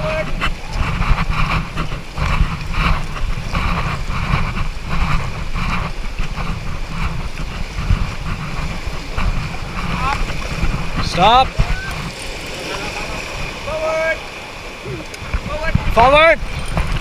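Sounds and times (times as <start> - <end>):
paddles splashing: 0.0 - 17.0
rushing river water: 0.0 - 17.0
wind buffeting microphone: 0.0 - 17.0.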